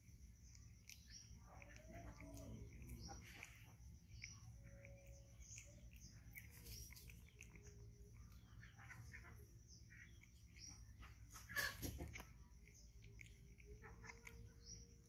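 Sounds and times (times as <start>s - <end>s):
faint high chirps: 0.0s - 15.0s.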